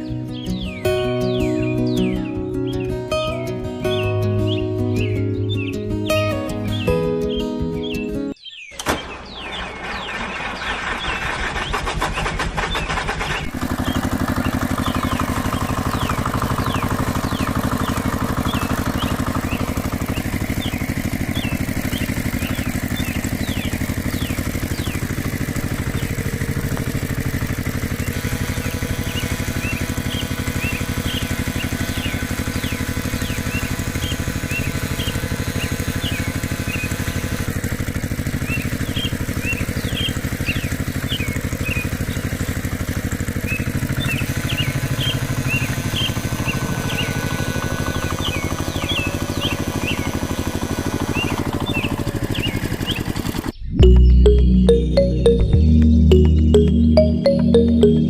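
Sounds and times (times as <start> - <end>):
small engine running: 0.0 - 2.2, 9.2 - 58.0.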